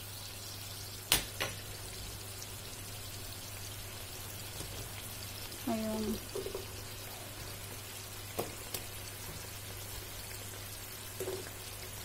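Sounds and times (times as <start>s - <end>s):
sauce boiling in a pot: 0.0s - 12.0s.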